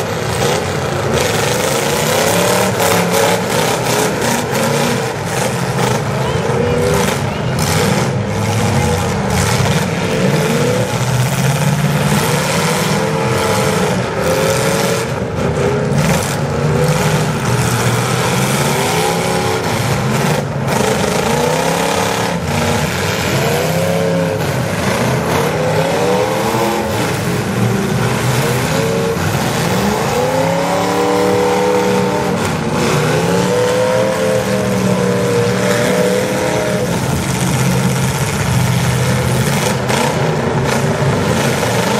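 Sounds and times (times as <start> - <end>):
car engines revving hard: 0.0 - 41.9.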